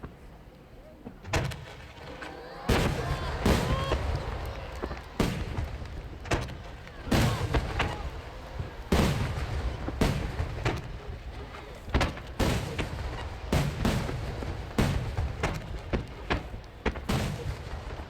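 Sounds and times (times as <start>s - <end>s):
firework shells bursting: 0.0s - 18.0s.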